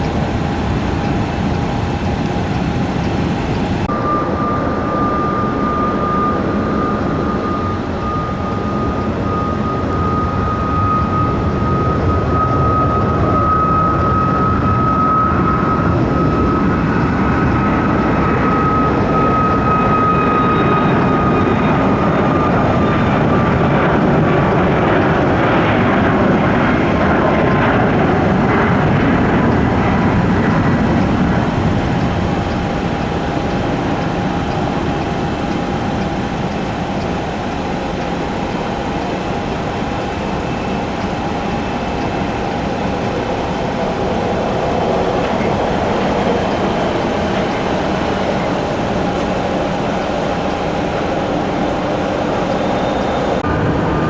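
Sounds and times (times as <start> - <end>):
jet engine whine: 0.0 - 54.0
jet roar: 0.0 - 54.0.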